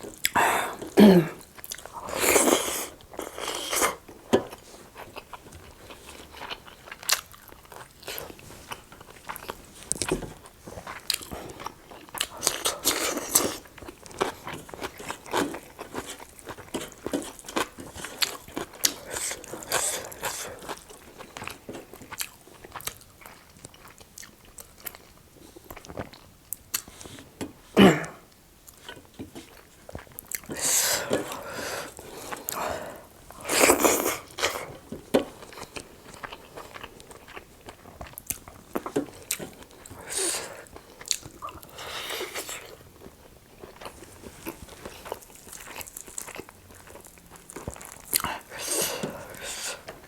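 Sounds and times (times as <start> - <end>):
chewing and crunching food: 0.0 - 50.0.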